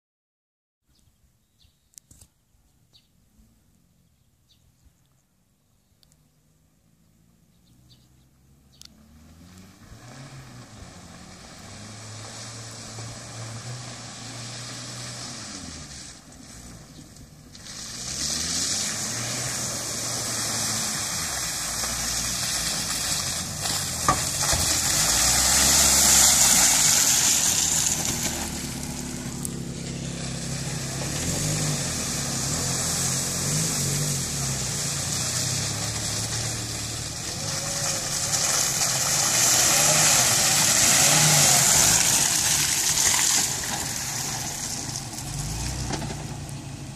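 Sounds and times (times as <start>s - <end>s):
engines revving in mud: 8.8s - 46.9s.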